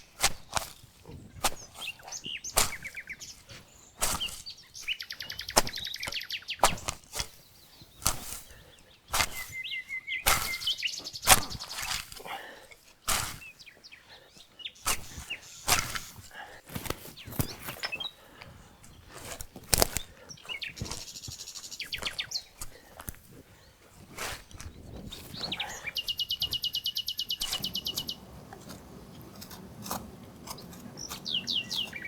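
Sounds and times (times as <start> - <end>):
small birds chirping and trilling: 0.0 - 32.0.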